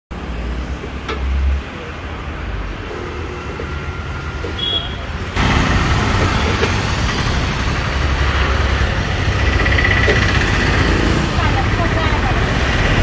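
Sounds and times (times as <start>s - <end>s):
road traffic with engine rumble: 0.1s - 13.0s.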